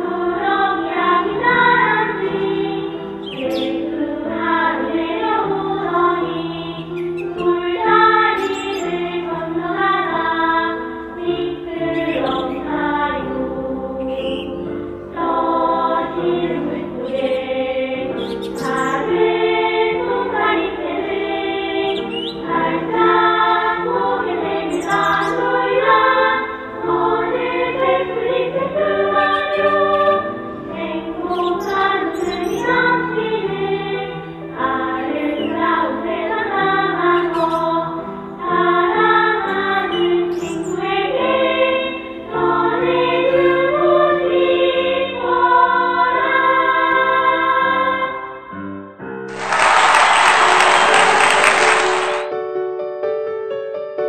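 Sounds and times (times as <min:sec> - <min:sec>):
children's choir singing: 0:00.0 - 0:48.5, 0:49.3 - 0:52.3.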